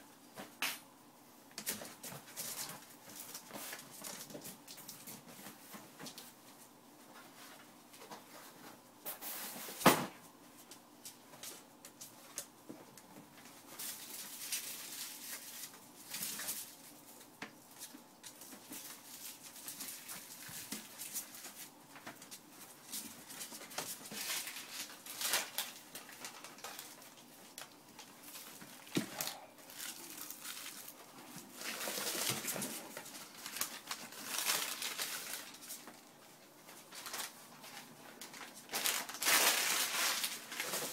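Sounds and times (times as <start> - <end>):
puppies rustling on blankets: 1.6 - 9.8, 10.4 - 40.9.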